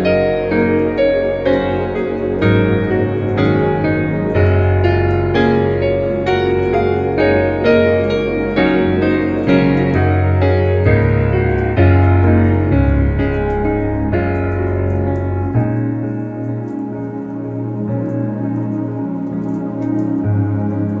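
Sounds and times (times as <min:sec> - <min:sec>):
fire crackling: 0:00.0 - 0:21.0
gentle piano music: 0:00.0 - 0:21.0.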